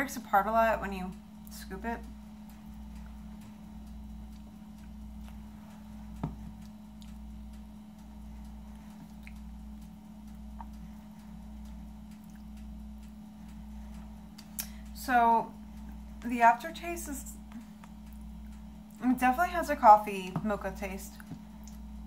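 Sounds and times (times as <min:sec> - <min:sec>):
throbbing low hum: 0:00.0 - 0:22.0
faint ticks: 0:01.1 - 0:19.0.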